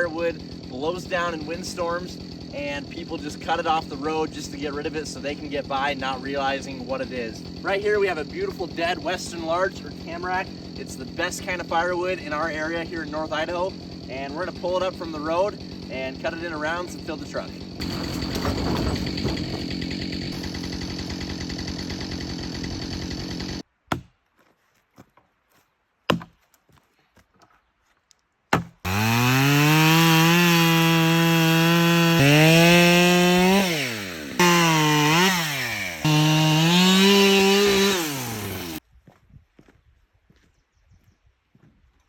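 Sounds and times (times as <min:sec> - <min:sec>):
chainsaw cutting log: 0:00.0 - 0:24.2, 0:26.1 - 0:26.4, 0:28.5 - 0:38.8.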